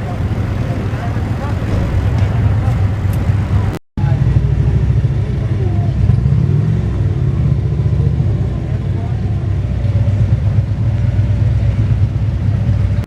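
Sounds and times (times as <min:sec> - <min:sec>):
faint voices: 0:00.0 - 0:06.5, 0:07.8 - 0:13.0
motorcycle engine running: 0:00.0 - 0:13.0.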